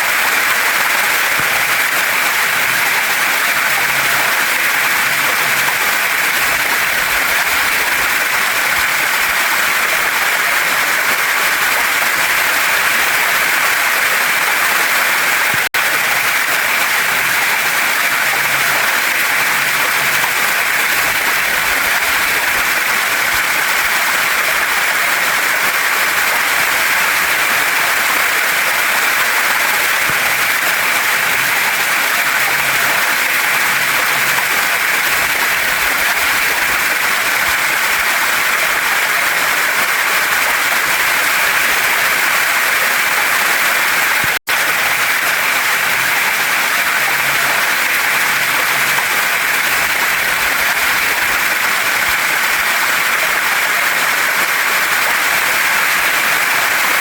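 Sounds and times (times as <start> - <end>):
waterfall pouring over rocks: 0.0 - 57.0.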